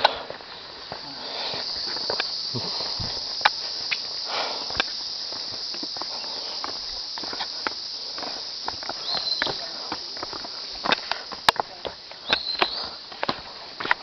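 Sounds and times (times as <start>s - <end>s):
footsteps on forest path: 0.0s - 14.0s
high insect drone: 0.0s - 14.0s.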